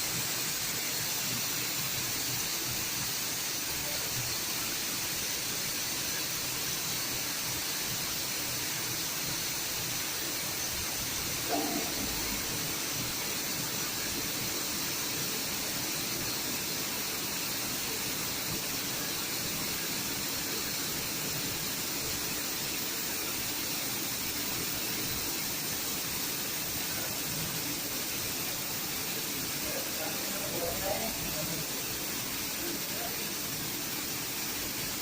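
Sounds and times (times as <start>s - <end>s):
spray painting hiss: 0.0s - 35.0s.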